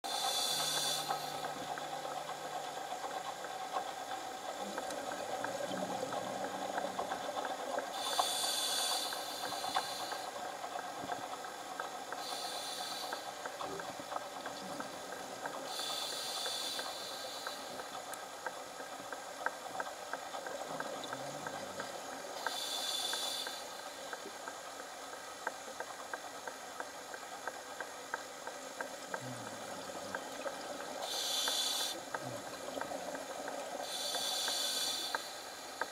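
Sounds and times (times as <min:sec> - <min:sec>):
steady hiss: 0:00.0 - 0:35.9
faint clicks: 0:04.5 - 0:35.9.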